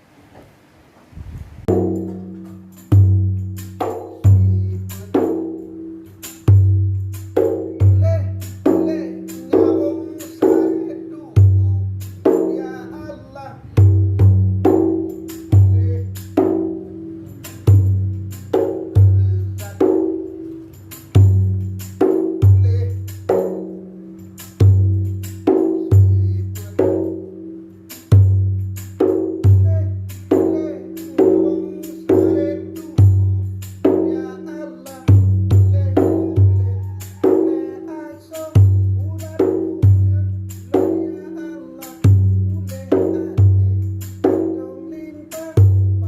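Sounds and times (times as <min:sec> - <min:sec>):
frame drum struck by hand: 0:01.6 - 0:46.0.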